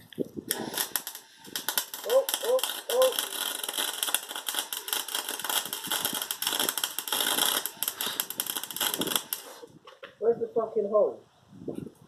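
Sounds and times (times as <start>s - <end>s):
welder arc crackling: 0.0s - 9.8s.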